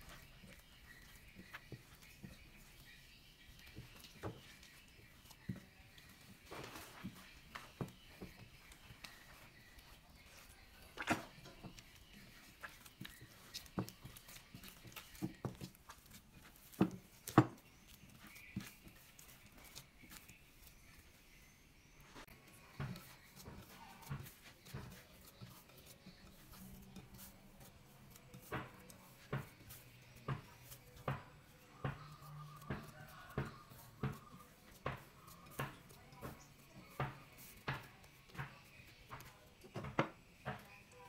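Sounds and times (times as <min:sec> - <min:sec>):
dough kneaded by hand: 0:00.0 - 0:41.0.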